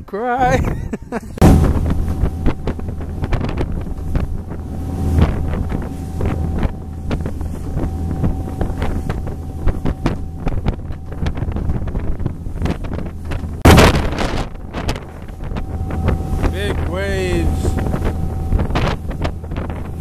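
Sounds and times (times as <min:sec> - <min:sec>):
wind buffeting microphone: 0:00.4 - 0:20.0
thin steady tone: 0:01.4 - 0:13.6, 0:14.7 - 0:20.0
churning wake rushing: 0:01.4 - 0:20.0
motorboat engine drone: 0:01.4 - 0:20.0.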